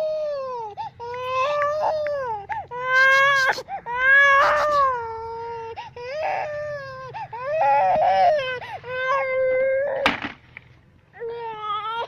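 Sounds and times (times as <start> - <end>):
baby crying: 0.0 - 10.1, 11.2 - 12.0.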